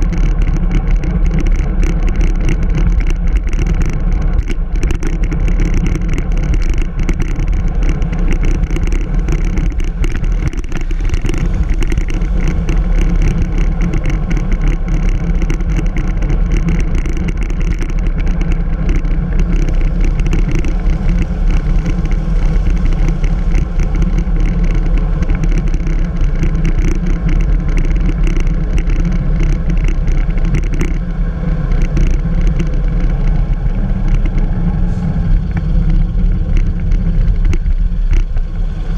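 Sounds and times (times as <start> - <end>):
air noise: 0.0 - 38.9
bicycle knocks and rattles: 0.0 - 38.9
bicycle road rumble: 0.0 - 38.9.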